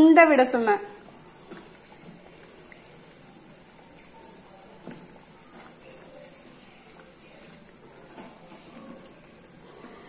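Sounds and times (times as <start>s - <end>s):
gravy bubbling in a pot: 0.0s - 10.0s.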